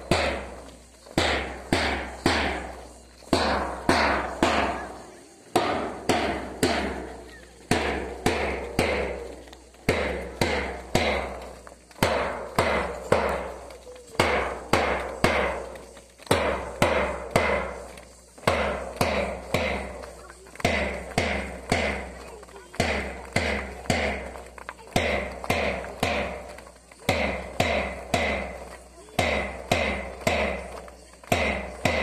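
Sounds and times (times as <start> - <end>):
drum beaten in marching time: 0.0 - 32.0.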